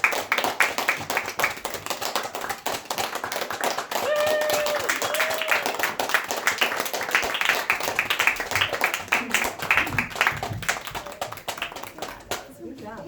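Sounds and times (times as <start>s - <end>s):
audience clapping: 0.0s - 12.8s.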